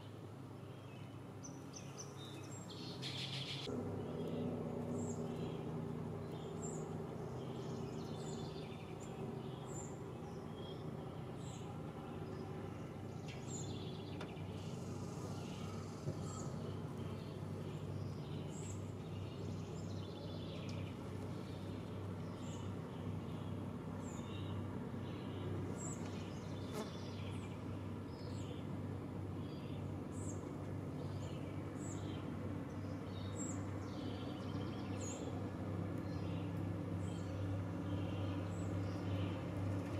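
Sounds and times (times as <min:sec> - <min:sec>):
small birds chirping: 0:00.0 - 0:39.9
steady low hum: 0:00.0 - 0:39.9.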